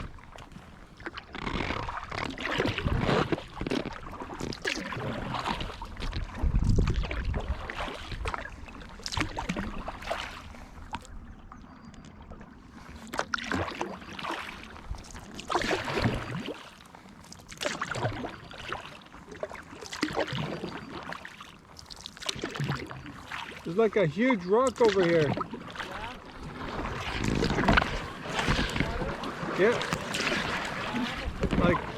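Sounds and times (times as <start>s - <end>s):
paddle splashing water: 0.0s - 31.9s.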